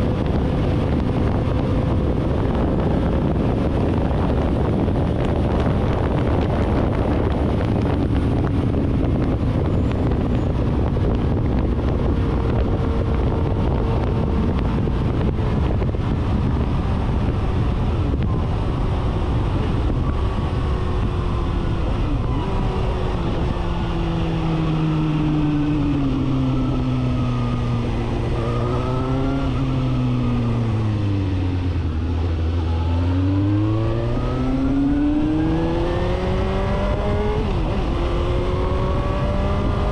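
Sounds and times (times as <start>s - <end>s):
motorcycle engine: 0.0s - 39.9s
wind rumble on microphone: 0.0s - 39.9s.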